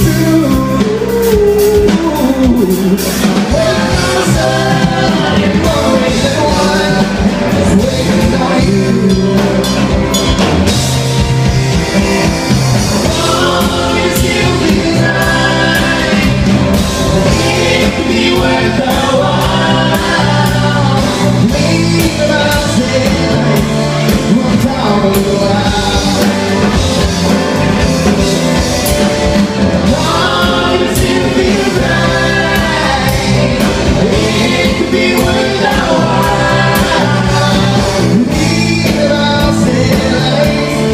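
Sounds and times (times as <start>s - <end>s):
person singing: 0.0s - 27.4s, 29.7s - 40.9s
rock band playing live: 0.0s - 40.9s.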